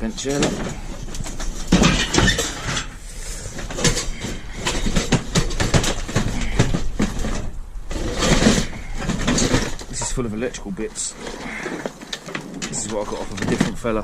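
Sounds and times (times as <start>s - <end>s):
scrap metal clattering: 0.0s - 14.0s.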